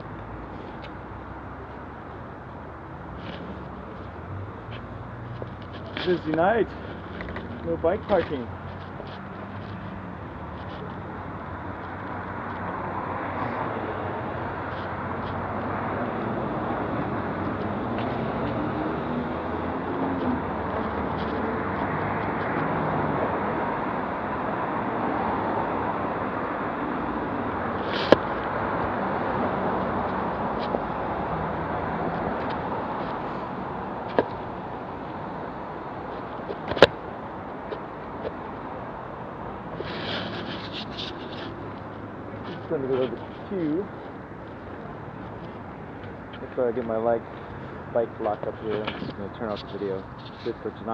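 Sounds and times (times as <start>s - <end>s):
bicycle tyres on road: 0.0s - 50.8s.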